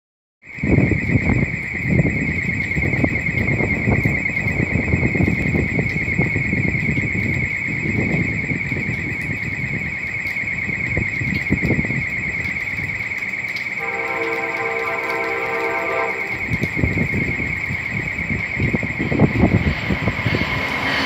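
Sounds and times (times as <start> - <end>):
low rumbling noise: 0.6 - 21.0.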